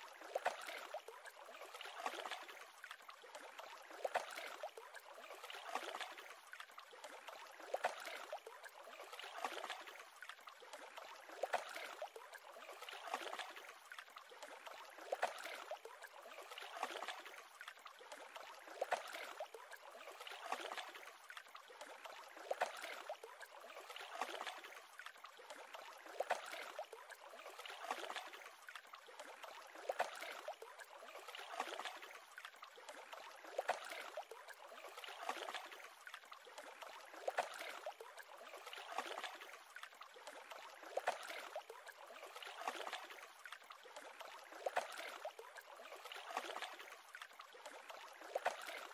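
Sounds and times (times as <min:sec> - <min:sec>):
small waves lapping at shore: 0:00.0 - 0:48.9.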